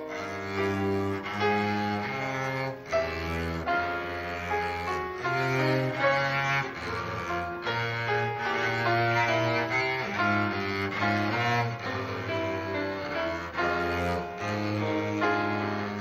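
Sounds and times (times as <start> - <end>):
cello melody: 0.0 - 16.0.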